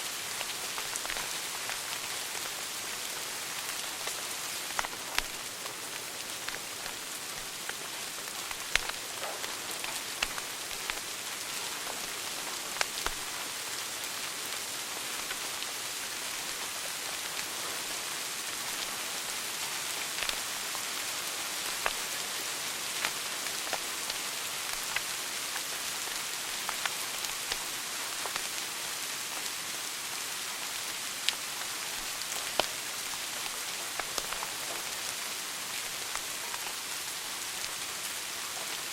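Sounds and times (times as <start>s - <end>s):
wood fire crackling: 0.1s - 29.5s, 30.7s - 38.9s.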